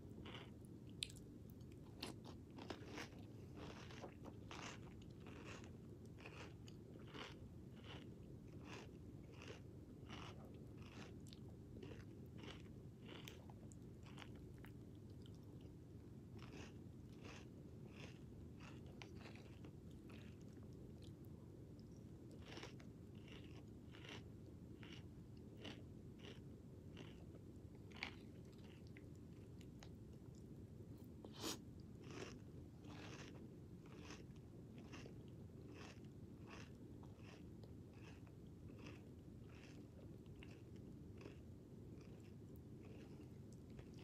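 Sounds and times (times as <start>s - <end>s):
person chewing crunchy cereal: 0.0s - 30.5s, 31.2s - 44.0s
low steady hum: 0.0s - 44.0s.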